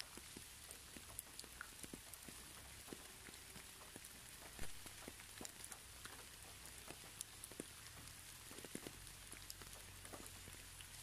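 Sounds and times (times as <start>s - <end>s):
raindrops ticking: 0.0s - 11.0s.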